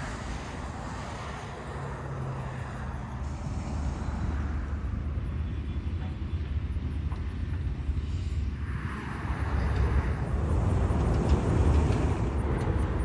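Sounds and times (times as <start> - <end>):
distant engines rumbling: 0.0 - 13.0.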